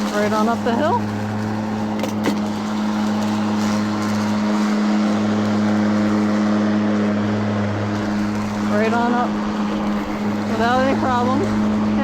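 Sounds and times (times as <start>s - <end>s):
electric mower hum: 0.0s - 12.0s.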